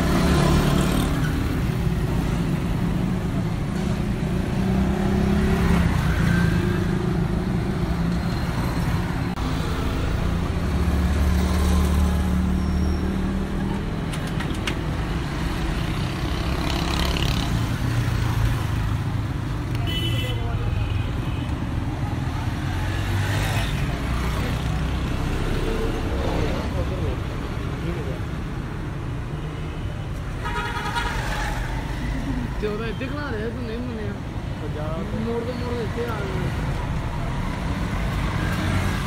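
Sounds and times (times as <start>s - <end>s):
vehicle engines passing: 0.0s - 39.0s.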